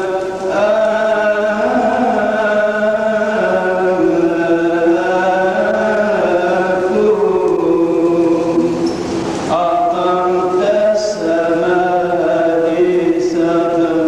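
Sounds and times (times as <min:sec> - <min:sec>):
man chanting: 0:00.0 - 0:08.8, 0:09.5 - 0:14.0.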